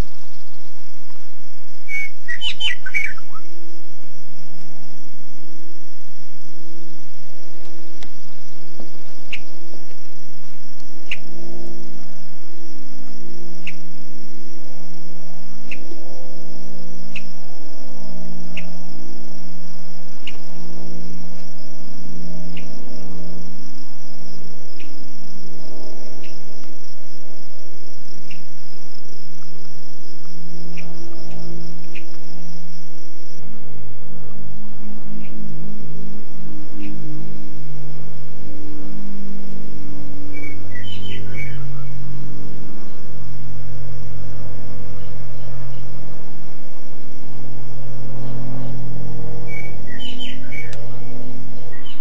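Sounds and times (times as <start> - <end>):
insects pulsing trill: 0.0 - 52.0
low uneven hum: 0.0 - 52.0.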